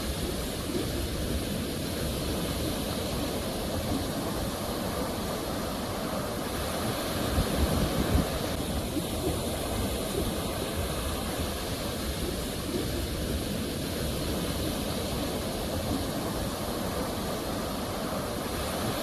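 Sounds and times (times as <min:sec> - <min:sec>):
sea waves rushing: 0:00.0 - 0:19.0.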